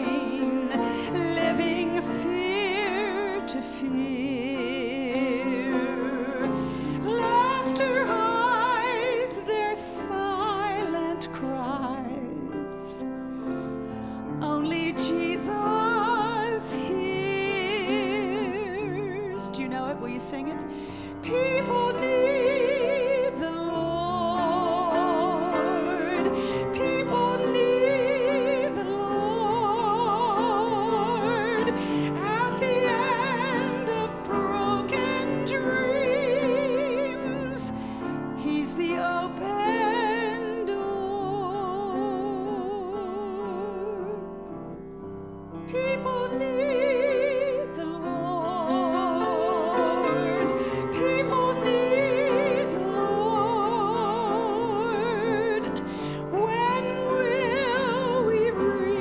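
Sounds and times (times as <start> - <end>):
woman singing with vibrato: 0.0 - 13.1, 14.4 - 44.4, 45.7 - 59.0
grand piano: 0.0 - 59.0.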